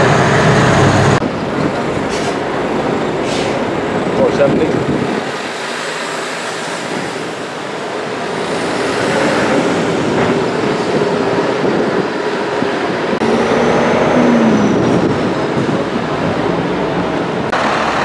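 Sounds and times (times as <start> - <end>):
steady engine drone: 0.0 - 4.6, 5.3 - 18.0
truck diesel engines passing: 0.0 - 18.0
tyre and traffic noise: 0.0 - 18.0.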